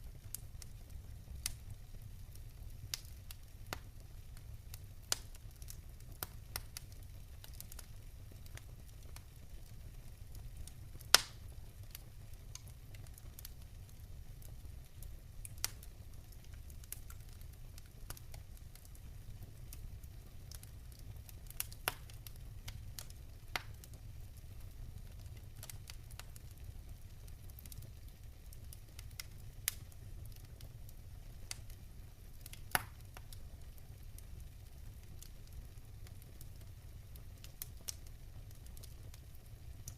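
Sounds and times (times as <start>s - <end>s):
fire crackles and pops: 0.0s - 39.9s
fire low rumble: 0.0s - 39.9s.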